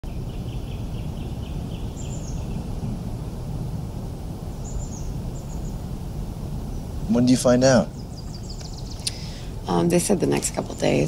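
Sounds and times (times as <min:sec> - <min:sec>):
birds chirping: 0:00.0 - 0:11.0
low outdoor rumble: 0:00.0 - 0:11.0.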